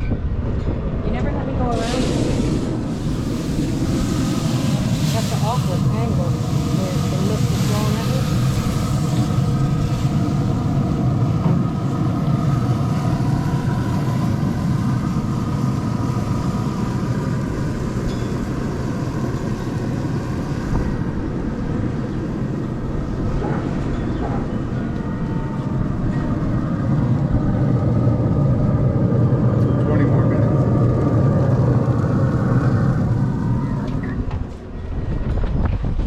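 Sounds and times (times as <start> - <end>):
low mechanical rumble: 0.0 - 36.0.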